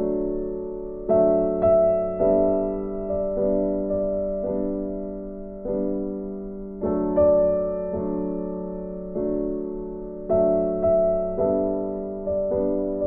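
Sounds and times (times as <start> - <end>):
slow soft piano music: 0.0 - 13.0.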